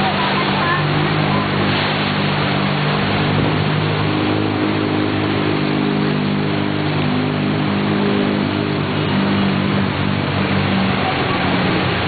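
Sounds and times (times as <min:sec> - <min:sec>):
vehicle engine running: 0:00.0 - 0:12.0
water rushing and splashing: 0:00.0 - 0:12.0.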